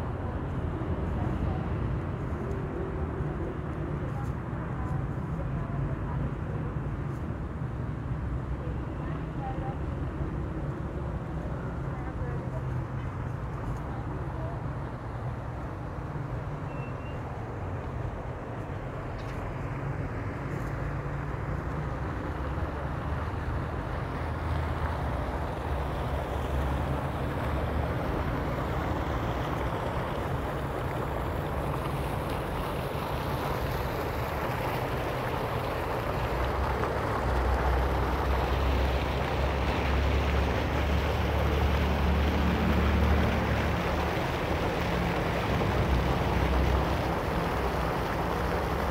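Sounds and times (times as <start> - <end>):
fountain water splashing: 0.0 - 48.9
low rumble of city traffic: 0.0 - 48.9.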